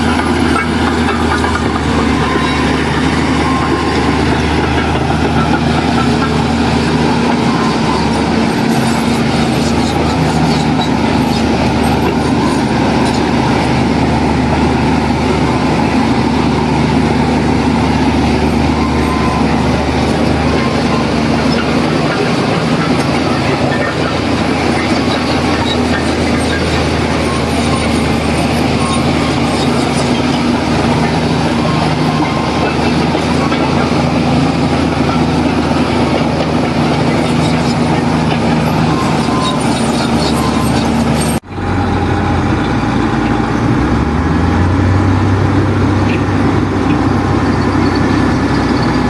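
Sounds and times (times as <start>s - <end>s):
diesel machinery engine drone: 0.0s - 49.0s.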